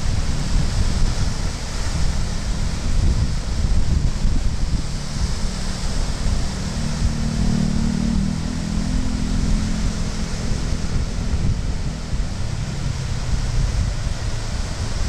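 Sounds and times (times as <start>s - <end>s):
low hum: 0.0s - 15.0s
surf breaking on a beach: 0.0s - 15.0s
wind buffeting microphone: 0.0s - 15.0s.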